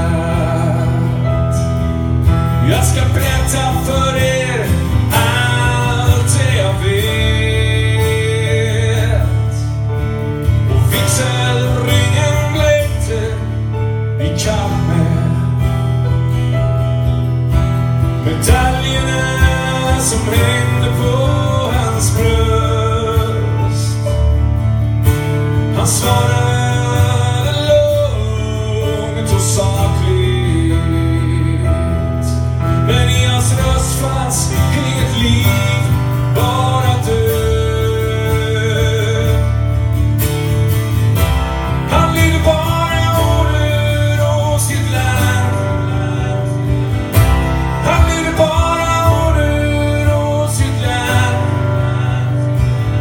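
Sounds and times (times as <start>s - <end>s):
man singing a ballad: 0.0s - 16.6s, 18.0s - 24.6s, 25.4s - 40.1s, 41.5s - 53.0s
strummed acoustic guitar: 0.0s - 53.0s.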